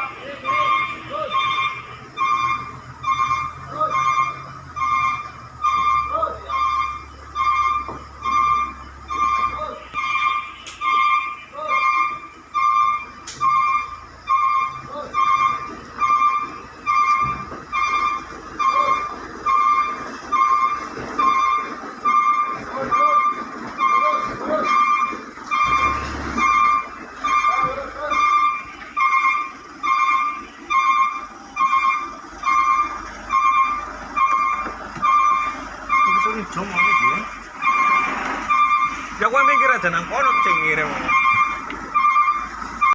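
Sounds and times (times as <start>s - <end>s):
truck reversing alarm beeping: 0.0s - 42.9s.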